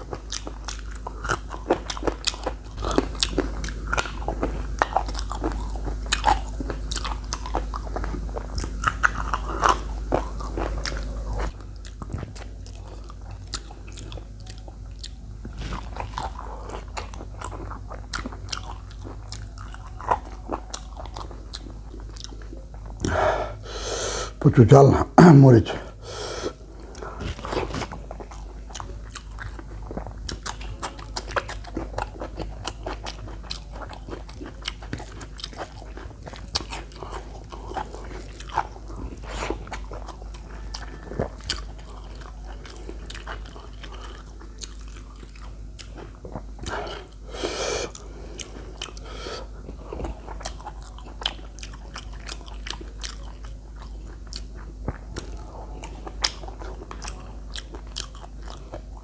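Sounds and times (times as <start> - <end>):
person crunching and chewing: 0.0 - 59.0.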